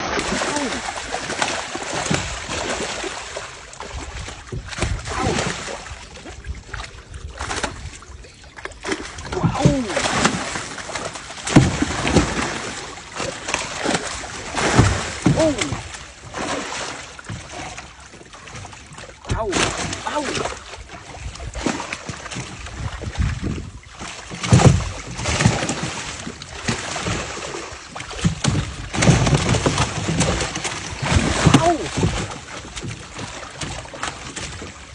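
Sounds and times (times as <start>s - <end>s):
water sloshing and splashing: 0.0s - 34.9s.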